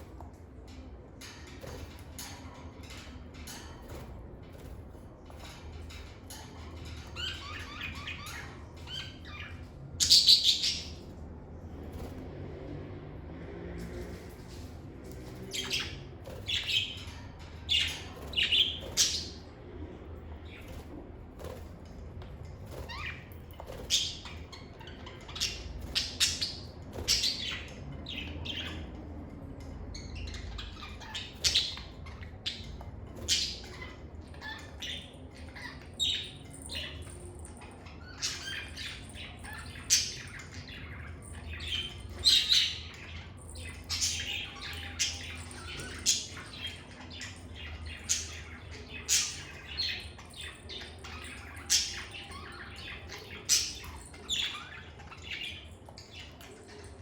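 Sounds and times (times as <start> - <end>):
lovebirds chirping and squawking: 0.0 - 12.6, 13.8 - 57.0.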